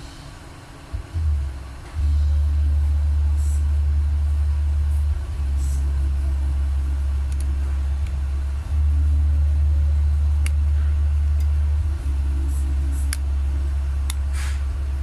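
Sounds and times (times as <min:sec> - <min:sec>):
loud low hum: 0:00.0 - 0:15.0.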